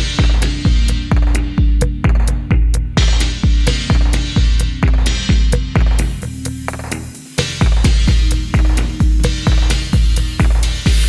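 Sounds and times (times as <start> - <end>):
electronic music with heavy kick drum: 0.0 - 11.0.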